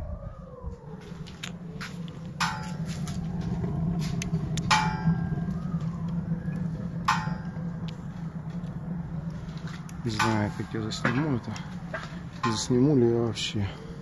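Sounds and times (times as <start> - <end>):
stove fire roaring: 0.0 - 14.0.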